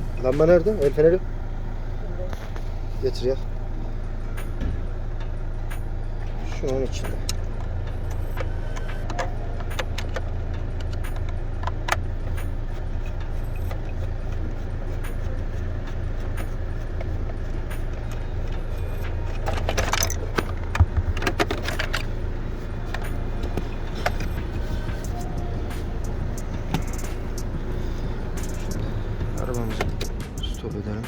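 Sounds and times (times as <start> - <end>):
car engine idling: 0.0 - 31.0
light clicks and rattles: 2.2 - 31.0.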